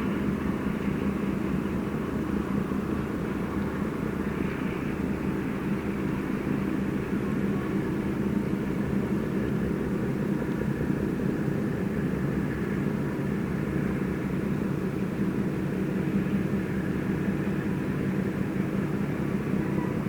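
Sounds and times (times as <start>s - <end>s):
low roar with hum: 0.0s - 20.0s.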